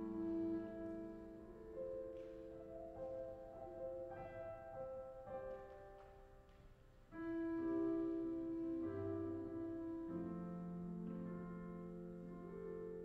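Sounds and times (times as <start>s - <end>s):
keyboard playing slow chords: 0.0s - 5.0s, 7.2s - 13.0s.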